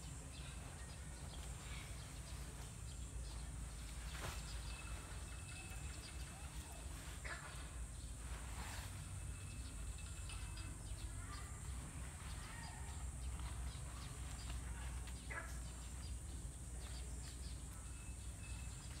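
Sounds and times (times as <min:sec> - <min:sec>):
dry leaves rustling and crackling: 0:00.0 - 0:09.9, 0:11.1 - 0:19.0
faint bird chirps: 0:00.0 - 0:19.0.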